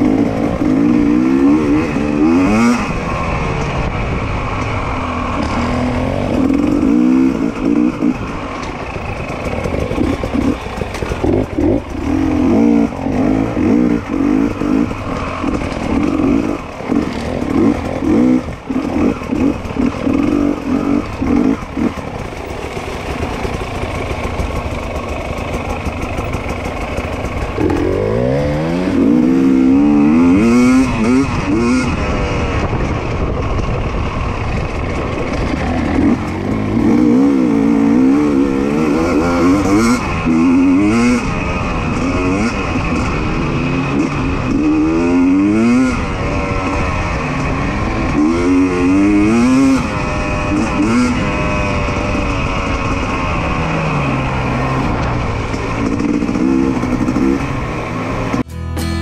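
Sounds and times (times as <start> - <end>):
dirt bike engine revving: 0.0 - 58.5.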